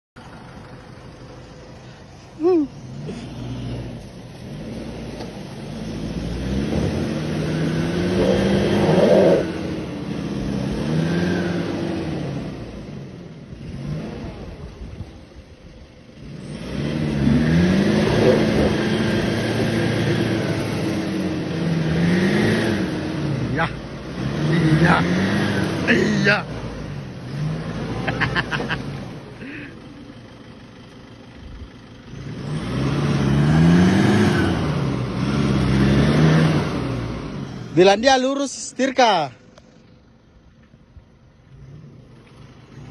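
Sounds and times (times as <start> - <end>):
pickup engine revving: 0.2 - 40.3, 41.2 - 42.9.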